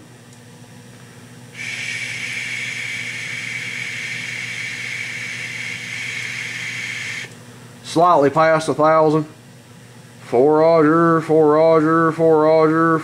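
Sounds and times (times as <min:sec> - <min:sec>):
low mains hum: 0:00.0 - 0:13.0.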